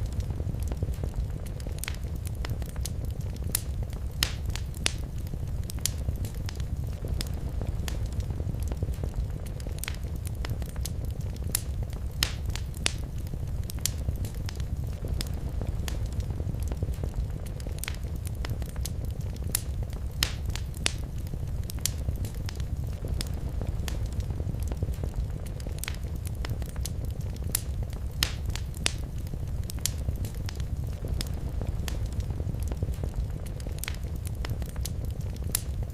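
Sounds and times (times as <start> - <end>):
low rumble of flames: 0.0 - 35.9
wood fire crackling: 0.0 - 35.9.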